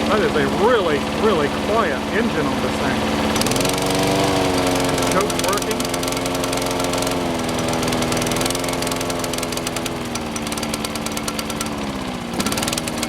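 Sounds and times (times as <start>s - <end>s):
lawn mower engine running: 0.0s - 13.0s.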